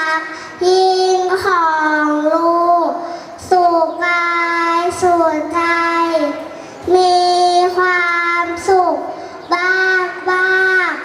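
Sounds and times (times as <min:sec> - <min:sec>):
girl singing into a microphone: 0:00.0 - 0:11.0.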